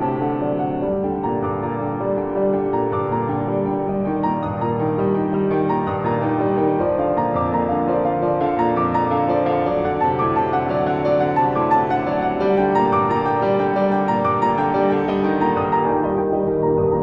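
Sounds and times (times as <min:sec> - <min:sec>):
slow calm piano music: 0:00.0 - 0:17.0.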